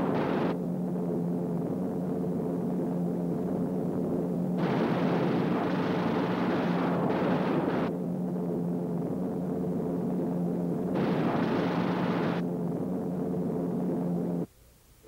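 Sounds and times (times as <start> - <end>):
aircraft engine rushing noise: 0.0 - 14.5
low hum: 0.0 - 15.0.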